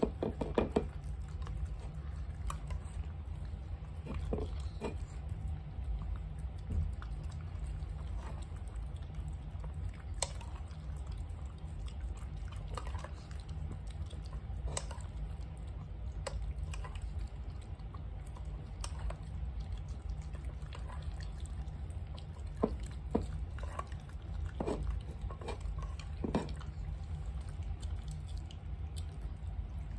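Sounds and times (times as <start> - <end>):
dog licking wet food: 0.0 - 29.9
dogs chewing from bowls: 0.0 - 29.9
steady low hum: 0.0 - 29.9.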